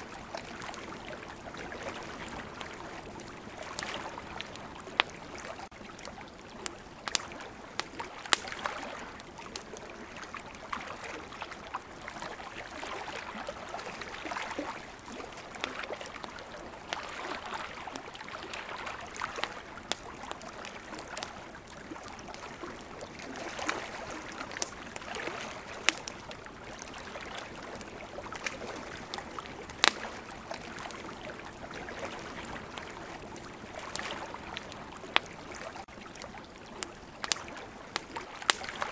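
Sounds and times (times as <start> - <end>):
campfire crackling: 0.0 - 38.9
sea waves: 0.0 - 38.9.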